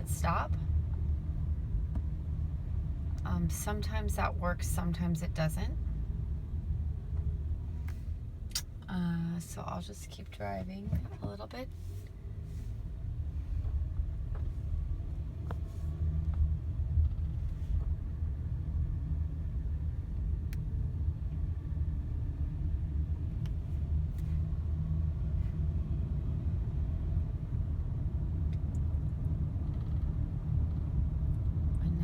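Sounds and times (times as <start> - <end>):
road and engine rumble in car: 0.0 - 32.0.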